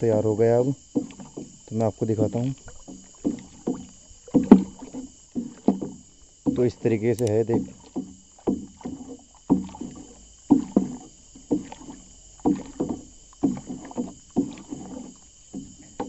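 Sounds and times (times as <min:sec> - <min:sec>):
liquid sloshing in a drum: 0:00.0 - 0:16.0.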